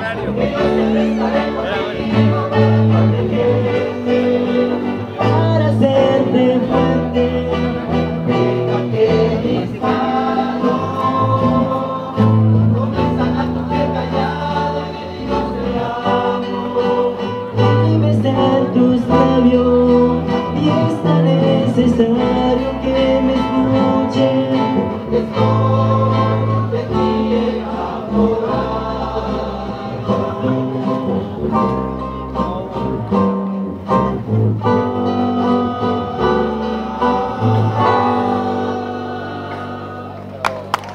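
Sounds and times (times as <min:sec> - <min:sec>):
men singing in chorus: 0:00.0 - 0:31.7, 0:34.8 - 0:40.4
acoustic guitars strummed: 0:00.0 - 0:40.9
sustained bass notes: 0:00.0 - 0:40.9.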